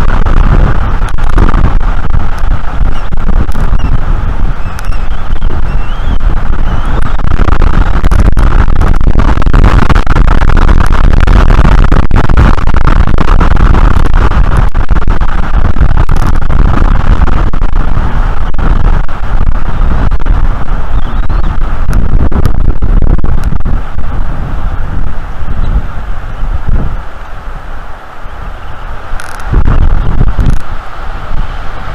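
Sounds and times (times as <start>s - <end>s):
strong wind on microphone: 0.0s - 31.9s.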